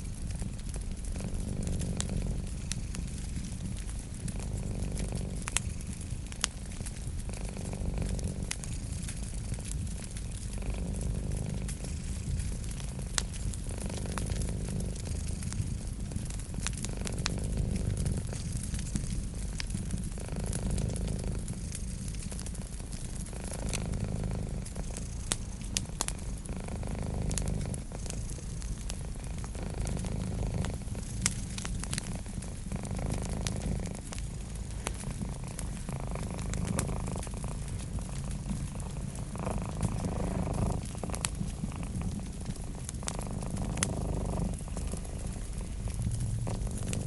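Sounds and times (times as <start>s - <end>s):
cat purring: 0.0s - 47.0s
wood fire crackling: 0.0s - 47.0s.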